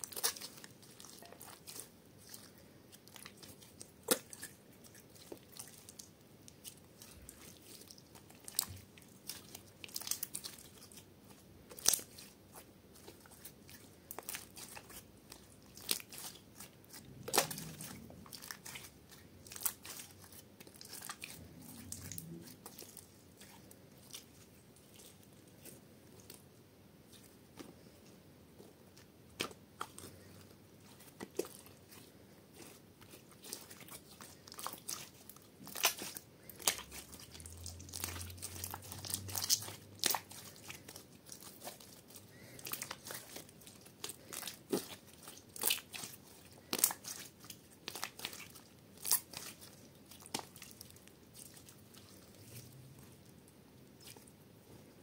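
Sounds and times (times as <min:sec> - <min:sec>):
slime popping and crackling: 0:00.0 - 0:02.4, 0:03.0 - 0:25.6, 0:29.3 - 0:52.8
hands squeezing sticky slime: 0:00.0 - 0:54.4.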